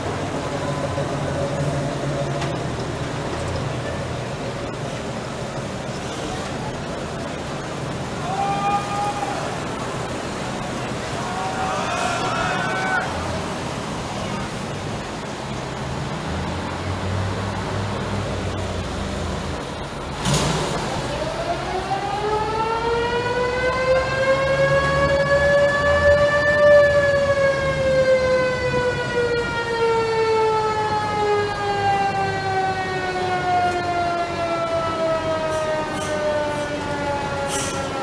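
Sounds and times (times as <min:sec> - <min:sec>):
truck engines rumbling: 0:00.0 - 0:38.0.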